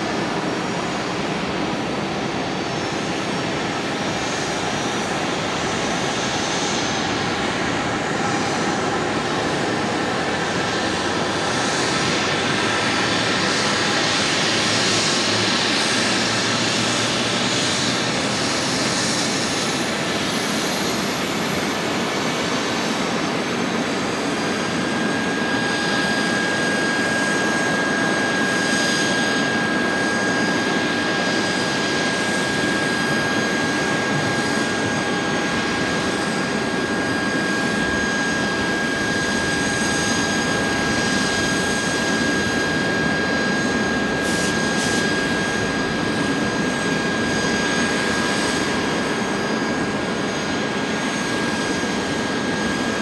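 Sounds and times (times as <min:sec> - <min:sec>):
jet engines idling with whine: 0:00.0 - 0:53.0.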